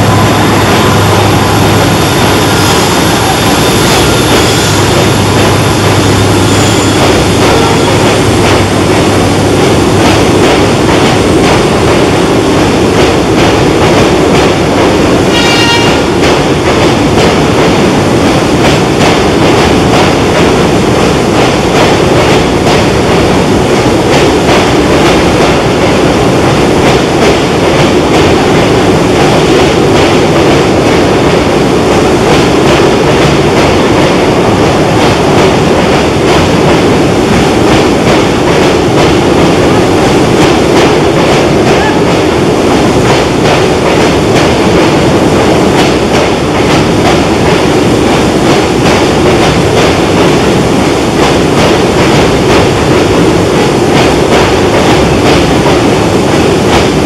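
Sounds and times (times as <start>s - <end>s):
train rumbling over bridge: 0.0s - 57.0s
wheels clickety-clack on rail joints: 3.9s - 57.0s.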